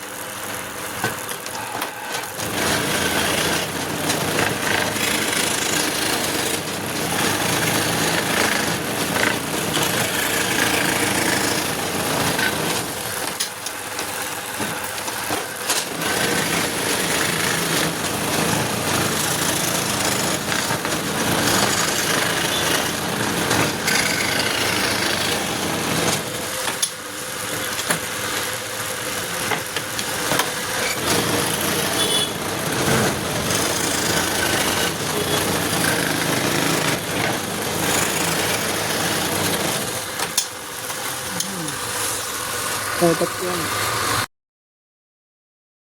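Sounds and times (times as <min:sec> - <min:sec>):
power tool cutting wood: 0:01.4 - 0:13.5, 0:14.3 - 0:44.3.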